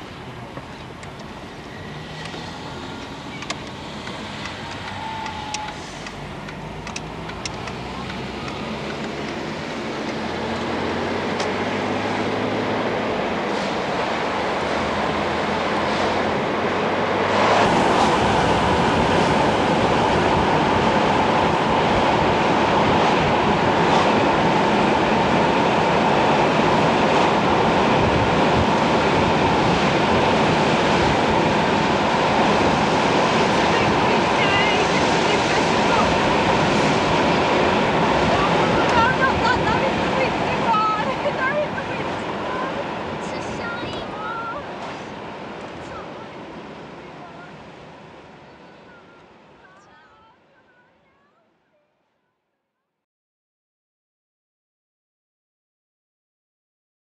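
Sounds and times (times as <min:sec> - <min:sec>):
loud steady rushing noise: 0:00.0 - 0:49.8
tyre and wind noise: 0:00.0 - 0:49.8.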